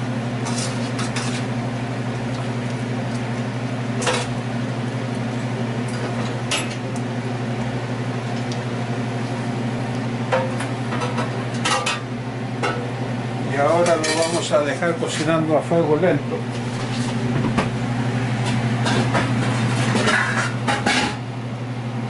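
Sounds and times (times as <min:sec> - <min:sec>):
appliance motor hum: 0:00.0 - 0:22.0.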